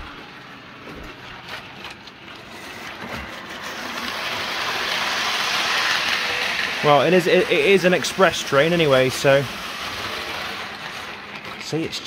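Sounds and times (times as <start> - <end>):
model train whirring rumble: 0.0 - 12.0.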